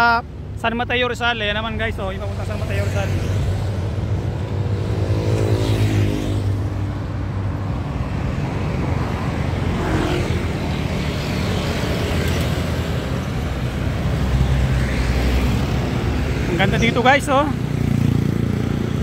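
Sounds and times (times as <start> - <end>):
busy road traffic: 0.0 - 19.0
vehicle passing by: 2.3 - 19.0.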